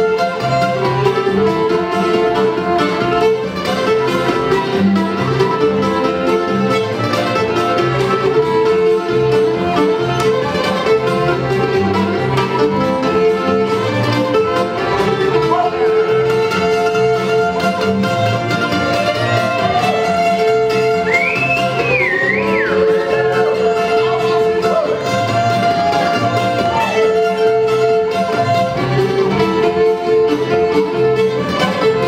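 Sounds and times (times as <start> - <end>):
fiddle melody: 0.0 - 32.0
mandolin: 0.0 - 32.0
strummed guitar: 0.0 - 32.0
upright bass: 0.0 - 32.0.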